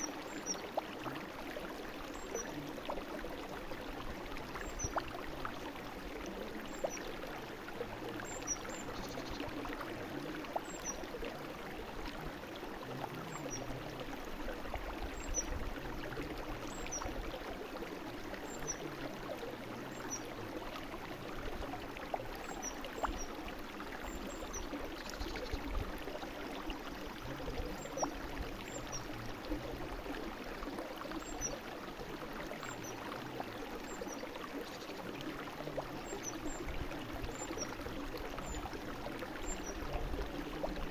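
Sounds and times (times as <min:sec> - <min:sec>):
brook running: 0:00.0 - 0:40.9.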